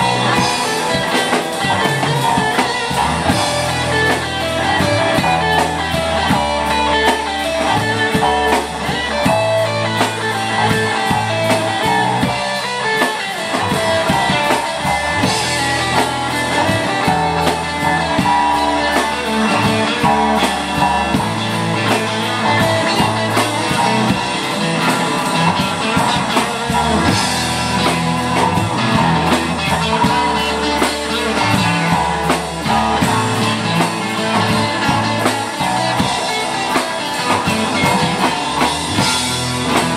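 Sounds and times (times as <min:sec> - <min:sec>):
drum kit: 0:00.0 - 0:39.9
electric guitars: 0:00.0 - 0:39.9
low bass notes: 0:00.0 - 0:39.9.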